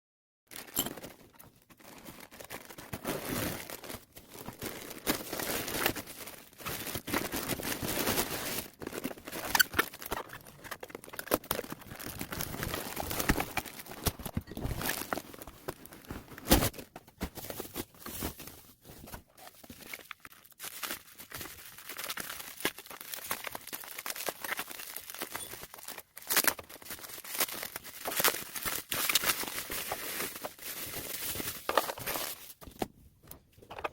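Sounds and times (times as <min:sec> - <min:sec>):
crinkling and rustling: 0:00.5 - 0:33.9.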